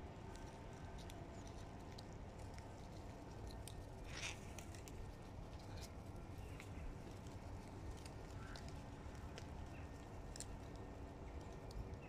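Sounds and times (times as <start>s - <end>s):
bird feet and beaks tapping snow: 0.0s - 12.0s
low steady background rumble: 0.0s - 12.0s.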